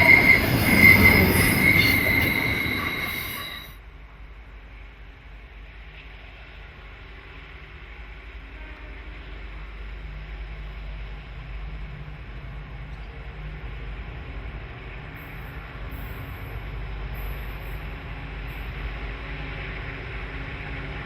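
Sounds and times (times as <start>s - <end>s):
diesel locomotive rumble: 0.0s - 21.0s.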